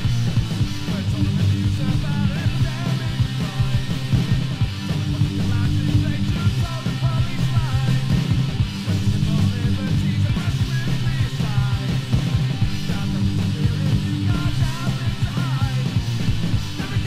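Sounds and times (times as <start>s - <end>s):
fast punk rock: 0.0s - 17.0s
loud guitars and bass: 0.0s - 17.0s
rapid drumming: 0.0s - 17.0s.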